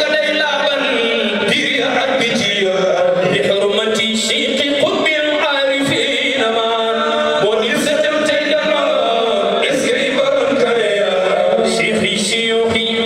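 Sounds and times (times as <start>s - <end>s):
men chanting through sound system: 0.0s - 13.0s.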